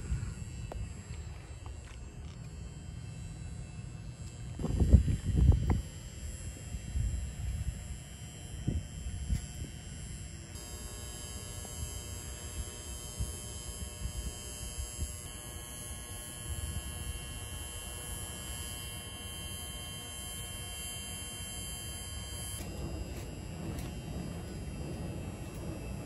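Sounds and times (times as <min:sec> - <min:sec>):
high buzzing whine: 0:00.0 - 0:26.0.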